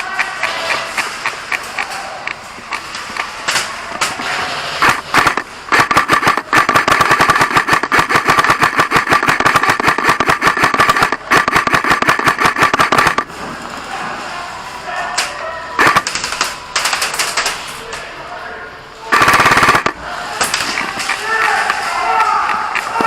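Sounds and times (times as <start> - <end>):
airsoft rifles firing bursts: 0.0 - 13.3, 15.8 - 17.6, 19.1 - 23.0.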